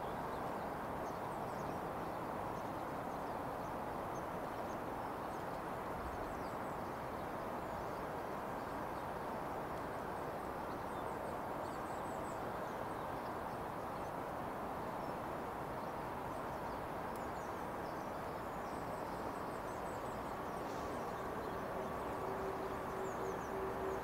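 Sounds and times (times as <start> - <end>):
outdoor background noise: 0.0 - 24.0
small birds chirping faintly: 0.0 - 24.0.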